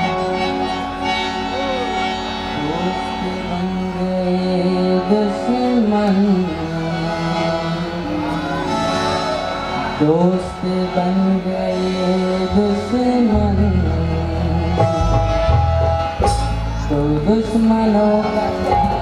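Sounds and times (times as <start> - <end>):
harmonium drone: 0.0 - 19.0.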